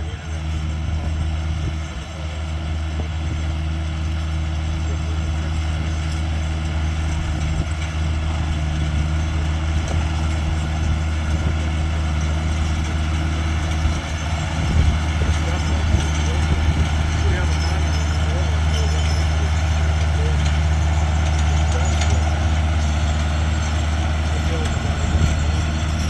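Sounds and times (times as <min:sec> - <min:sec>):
engine droning: 0:00.0 - 0:26.0.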